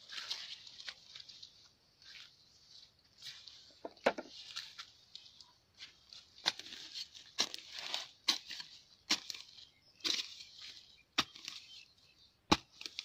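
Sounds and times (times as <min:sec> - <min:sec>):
footsteps through dry grass: 0:00.0 - 0:12.9.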